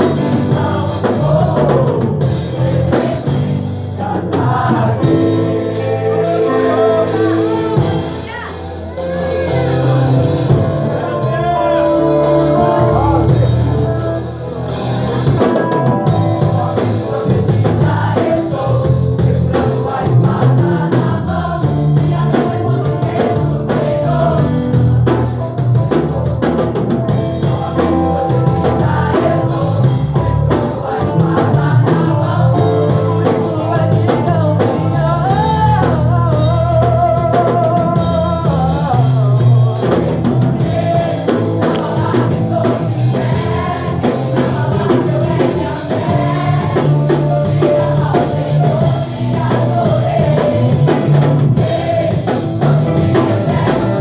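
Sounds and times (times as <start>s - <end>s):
gospel band playing: 0.0s - 54.0s
steady bass line: 0.0s - 54.0s
voices singing: 0.0s - 54.0s.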